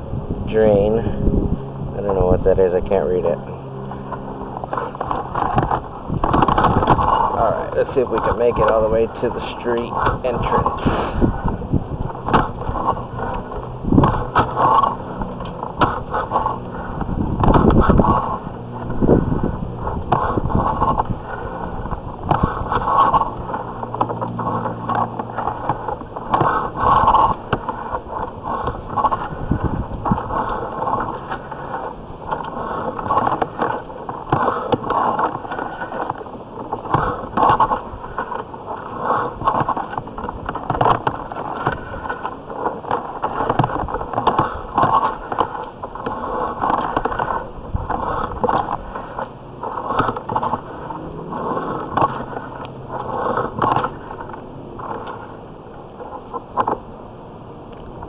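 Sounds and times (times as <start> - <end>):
camera scraping inside metal pipe: 0.5 - 56.8.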